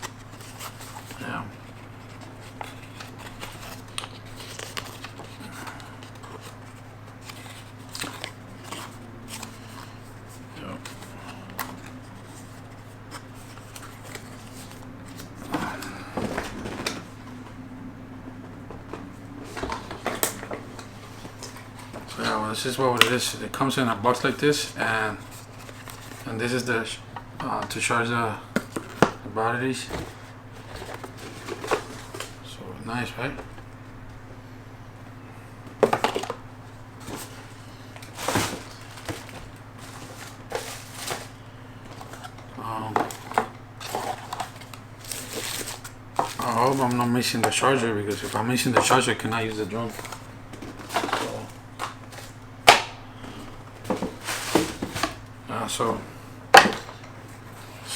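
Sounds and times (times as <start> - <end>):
cardboard packaging rustling: 0.0 - 17.6, 18.7 - 33.8, 35.7 - 57.6
steady low hum: 0.0 - 57.9.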